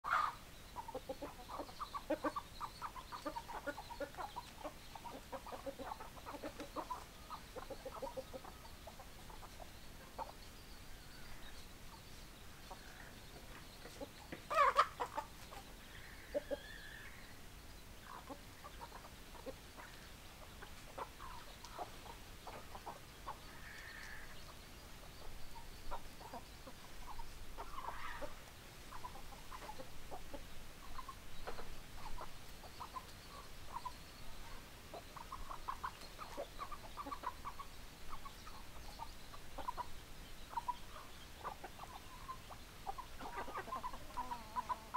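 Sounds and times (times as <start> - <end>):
chickens clucking: 0.1 - 44.9.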